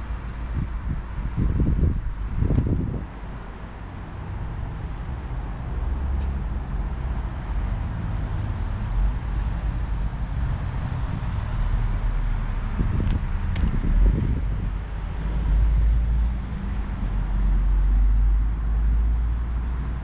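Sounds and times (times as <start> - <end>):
road and wind noise hiss: 0.0 - 20.0
truck engine rumble: 0.0 - 20.0.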